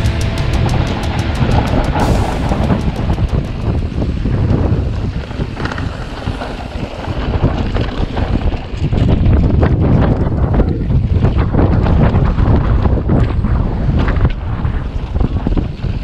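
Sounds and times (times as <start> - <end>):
mountain bike rumbling on dirt trail: 0.0 - 16.0
wind buffeting microphone: 0.0 - 16.0.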